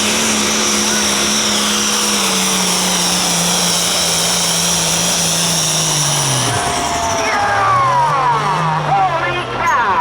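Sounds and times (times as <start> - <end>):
diesel engine running hard: 0.0 - 10.0.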